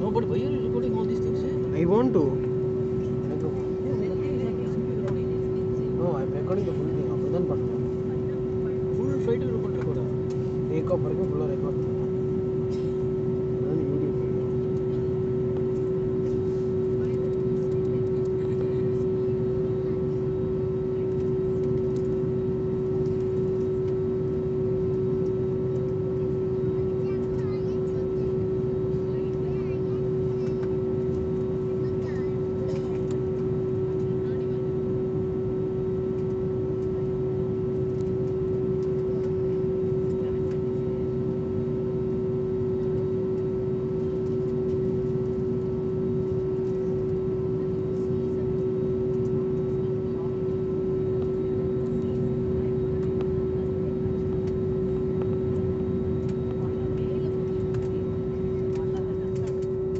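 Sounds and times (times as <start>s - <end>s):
jet engines humming at low power: 0.0s - 59.9s.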